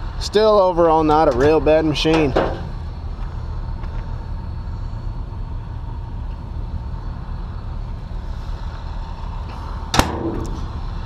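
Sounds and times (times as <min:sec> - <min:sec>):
diesel engine idling: 0:00.0 - 0:11.0
faint steady whine: 0:00.0 - 0:11.0.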